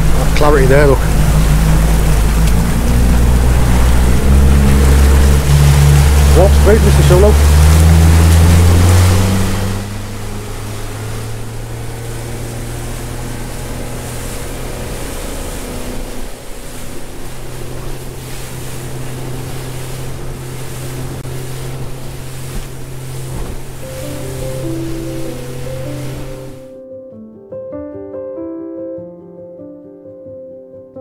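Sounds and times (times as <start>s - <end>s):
motorboat engine humming: 0.0s - 26.8s
water rushing past hull: 0.0s - 26.8s.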